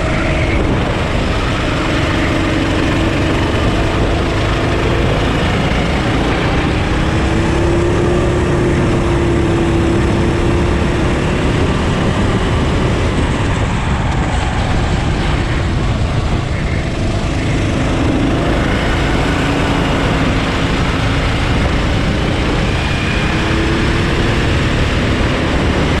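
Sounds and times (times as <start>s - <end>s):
kart engine running hard: 0.0s - 26.0s.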